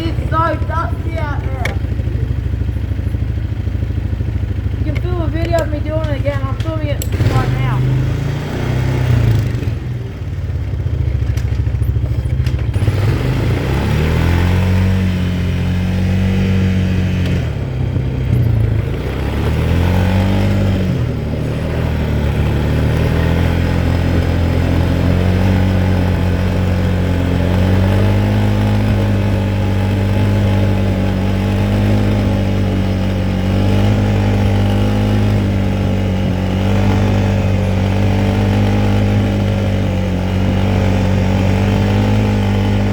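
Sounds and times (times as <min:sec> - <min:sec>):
quad bike engine revving: 0:00.0 - 0:42.9.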